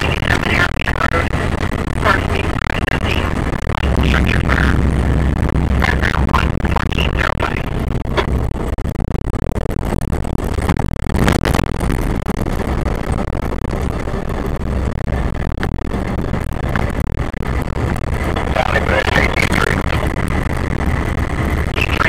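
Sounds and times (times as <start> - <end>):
engine and road rumble: 0.0 - 22.0.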